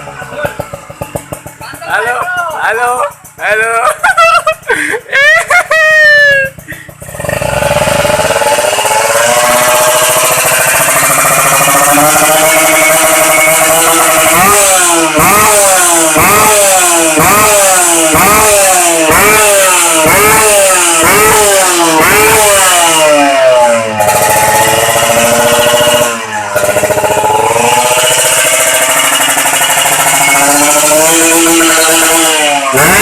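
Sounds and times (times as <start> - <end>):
motorcycle engine revving and idling: 0.0 - 33.0.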